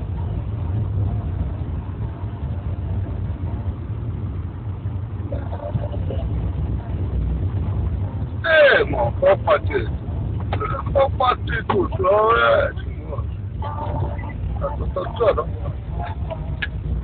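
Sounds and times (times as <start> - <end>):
engine and tyres rumbling: 0.0 - 17.0.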